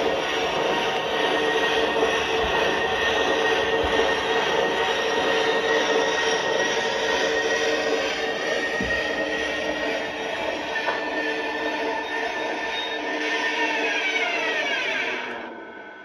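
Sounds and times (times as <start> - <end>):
wheels rolling on rails: 0.0 - 15.5
model train motor whine: 0.0 - 16.0.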